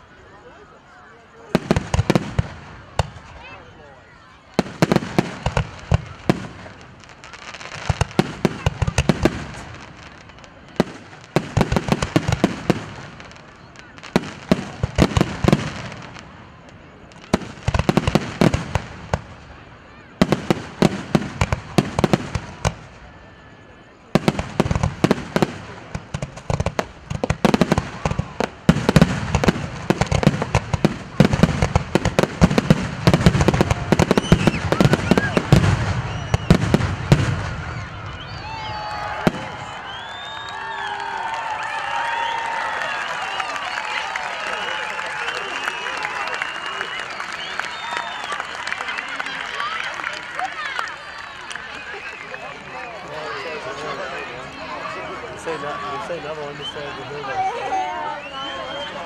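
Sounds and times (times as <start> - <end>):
fireworks bursting: 1.3 - 59.0.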